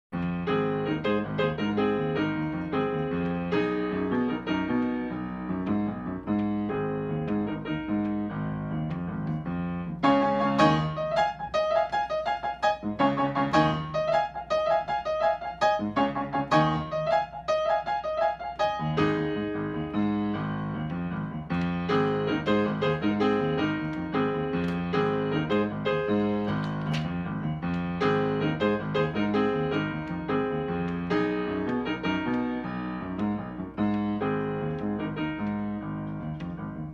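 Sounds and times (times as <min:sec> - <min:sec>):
upright piano playing: 0:00.1 - 0:36.9.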